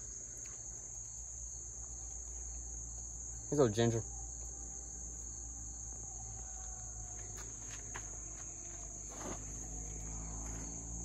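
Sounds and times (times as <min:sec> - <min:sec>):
insects singing: 0:00.0 - 0:11.0.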